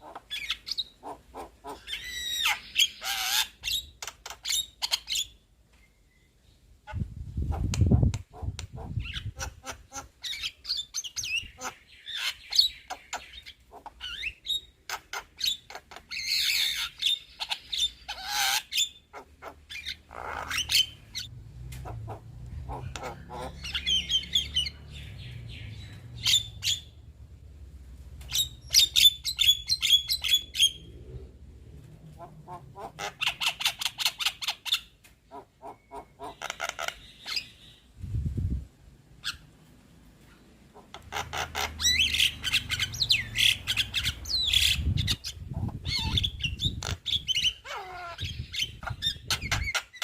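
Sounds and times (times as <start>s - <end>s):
bird singing and chattering: 0.0s - 21.3s, 21.9s - 27.0s, 28.2s - 31.4s, 32.3s - 37.9s, 40.8s - 50.0s.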